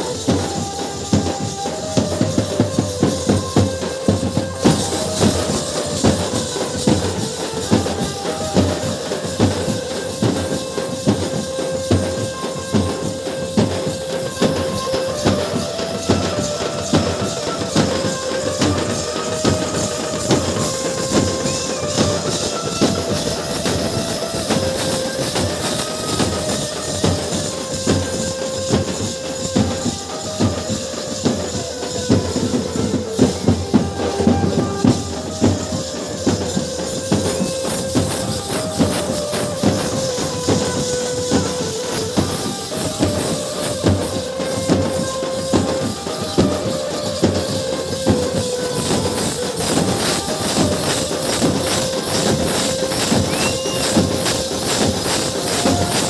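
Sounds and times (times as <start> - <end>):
fast dense drumming: 0.0 - 56.0
jingling percussion: 0.0 - 56.0.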